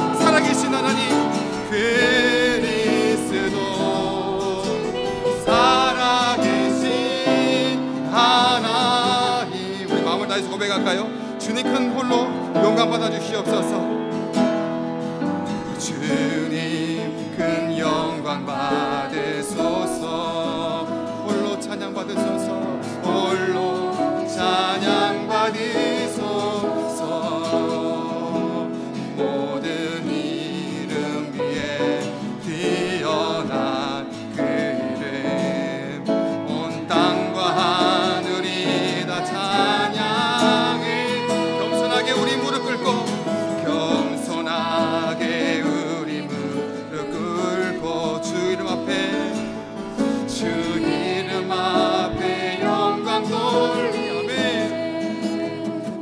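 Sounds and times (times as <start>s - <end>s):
man singing: 0.0s - 14.0s, 15.5s - 56.0s
acoustic guitar strumming: 0.0s - 56.0s.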